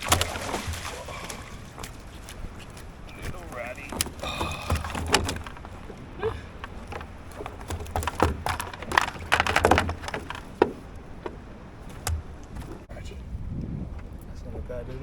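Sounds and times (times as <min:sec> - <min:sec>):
knocks and thumps on a kayak: 0:00.0 - 0:12.9.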